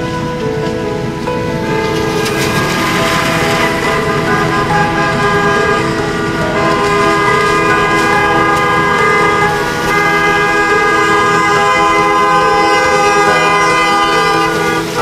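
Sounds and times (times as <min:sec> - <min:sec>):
car horns honking: 0:01.9 - 0:15.0.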